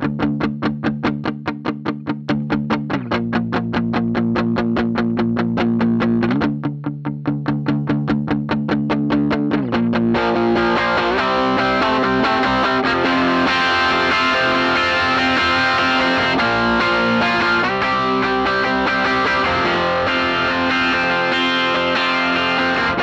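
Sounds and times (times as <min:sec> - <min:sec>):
distorted electric guitar chords: 0:00.0 - 0:23.0.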